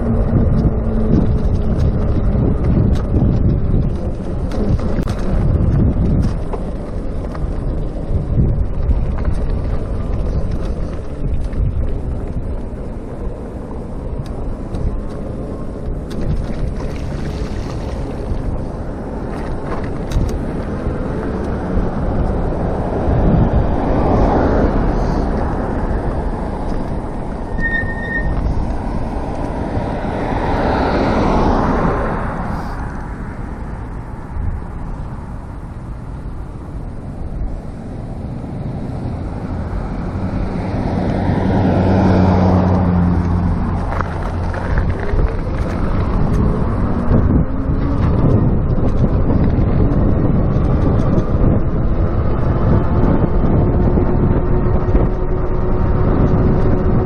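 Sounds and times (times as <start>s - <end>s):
low engine hum: 0.0s - 57.0s
motor traffic passing: 0.0s - 57.0s
road noise: 0.0s - 57.0s
wind noise: 0.0s - 57.0s.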